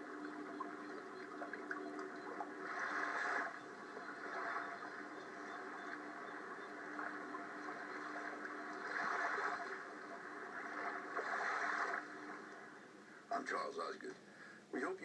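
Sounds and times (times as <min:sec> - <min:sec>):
water washing and lapping: 0:00.0 - 0:12.8.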